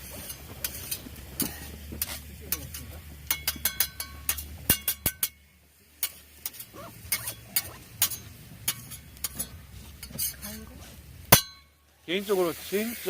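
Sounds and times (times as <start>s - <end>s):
utensils clinking on metal cookware: 0.0s - 11.8s.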